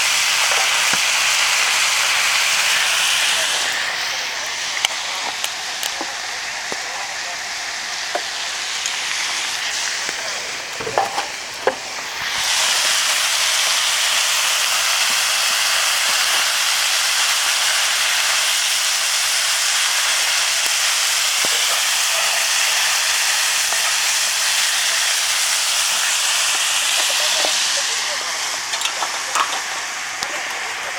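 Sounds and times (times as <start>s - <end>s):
bonfire hissing with steam: 0.0s - 30.9s.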